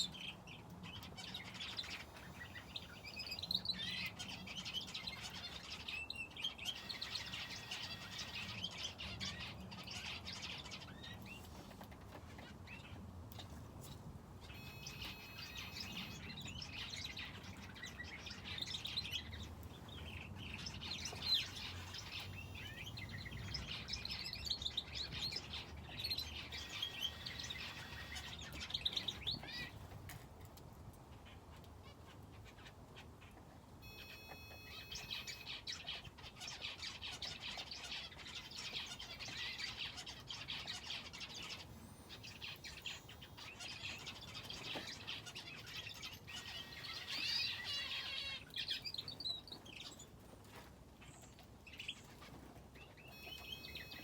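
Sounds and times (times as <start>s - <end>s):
finches and canary chirping: 0.0s - 13.1s, 14.4s - 30.0s, 31.2s - 54.0s.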